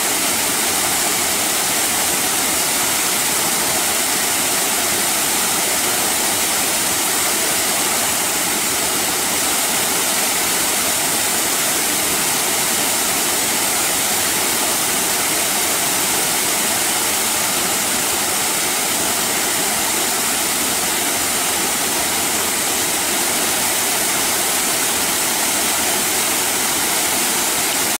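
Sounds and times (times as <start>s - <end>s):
waterfall splashing onto rocks: 0.0s - 28.0s.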